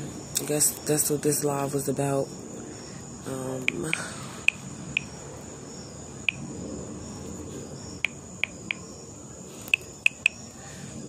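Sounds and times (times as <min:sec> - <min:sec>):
cricket chirping: 0:00.0 - 0:11.0
steady high-pitched hum: 0:00.0 - 0:11.0.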